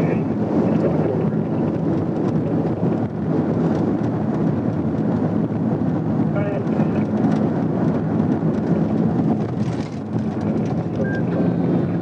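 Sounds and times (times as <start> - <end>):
car driving at highway speed: 0.0 - 12.0.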